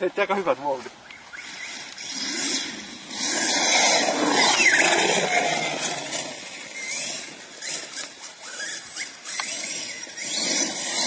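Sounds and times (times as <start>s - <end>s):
toy car motor whine: 1.1s - 11.0s.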